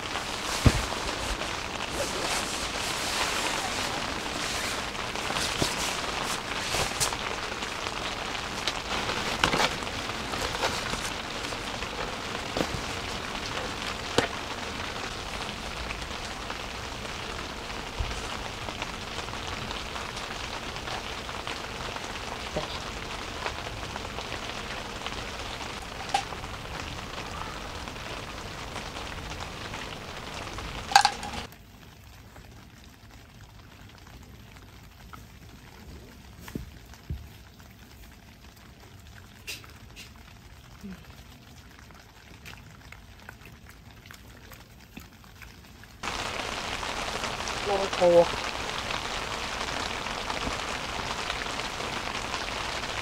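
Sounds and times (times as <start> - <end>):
rain on a tent roof: 0.0 - 53.0.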